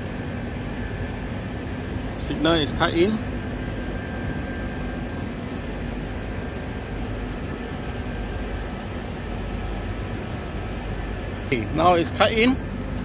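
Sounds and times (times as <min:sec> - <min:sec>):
airy fan noise: 0:00.0 - 0:13.0
low hum: 0:00.0 - 0:13.0.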